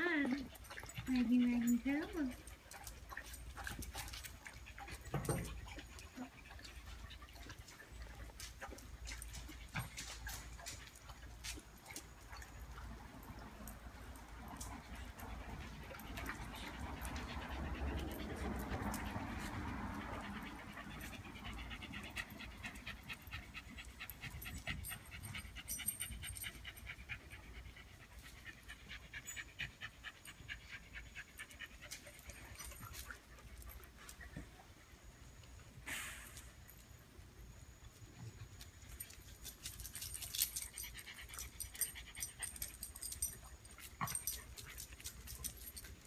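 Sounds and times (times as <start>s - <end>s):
dog panting: 0.0s - 34.9s, 39.0s - 46.0s.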